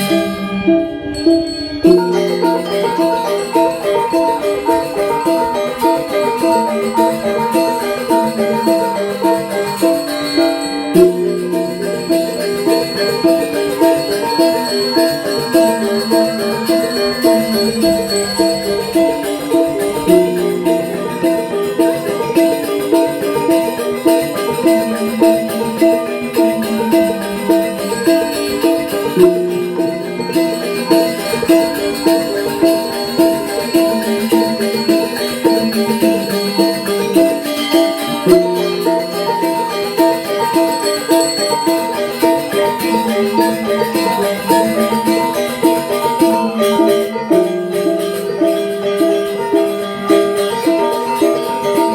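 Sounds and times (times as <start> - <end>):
gamelan ensemble playing: 0.0 - 51.9.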